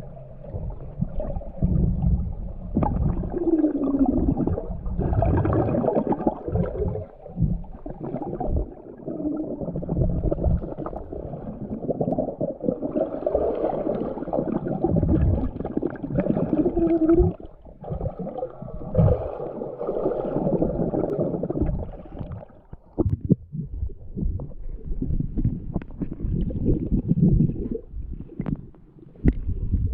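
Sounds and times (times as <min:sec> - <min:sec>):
underwater sloshing and bubbling: 0:00.0 - 0:29.9.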